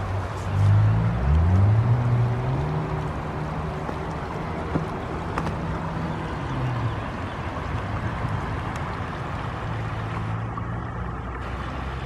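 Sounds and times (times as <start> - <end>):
low engine hum: 0.0 - 12.0
river rushing over rocks: 0.0 - 12.0.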